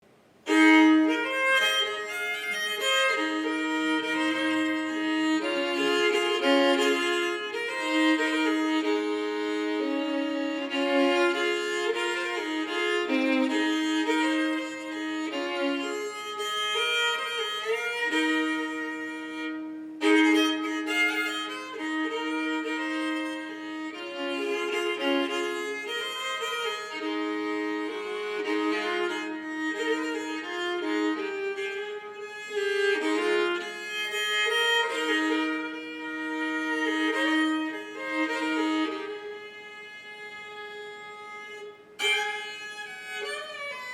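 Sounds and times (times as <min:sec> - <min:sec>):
solo fiddle melody over drone: 0:00.5 - 0:43.9.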